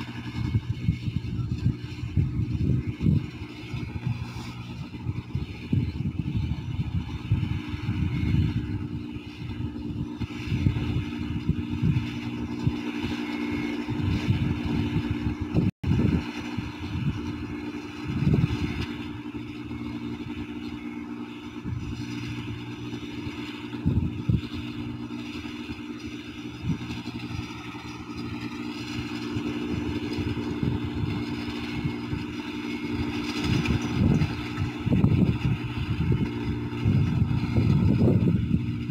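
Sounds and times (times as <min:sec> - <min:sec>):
harvester engine humming: 0:00.0 - 0:38.9.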